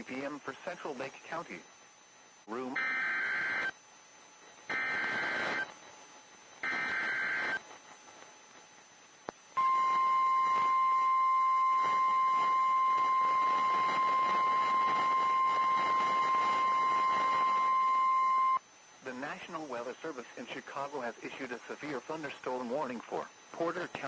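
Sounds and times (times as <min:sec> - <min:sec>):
steady warning alarm tone: 0:00.0 - 0:03.8, 0:04.6 - 0:05.8, 0:06.4 - 0:08.0, 0:08.8 - 0:23.8.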